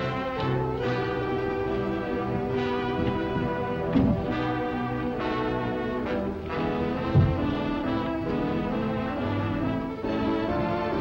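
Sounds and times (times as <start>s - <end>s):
orchestral music with brass: 0.0s - 11.0s.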